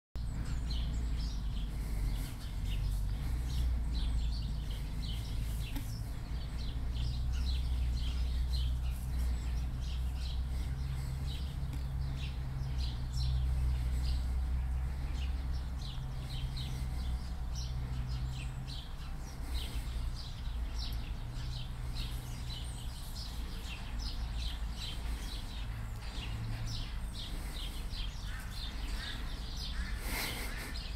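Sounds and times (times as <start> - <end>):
low steady rumble: 0.2 - 29.9
small birds chirping: 0.2 - 30.9.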